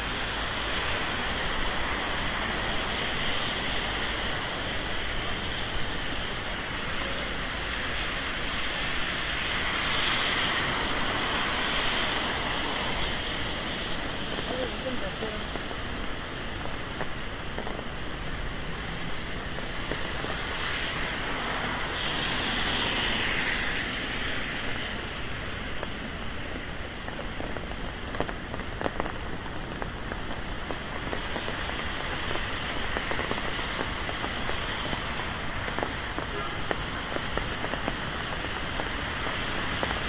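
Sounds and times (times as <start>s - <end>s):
louder hiss: 0.0s - 40.0s
rain falling on street: 0.0s - 40.0s.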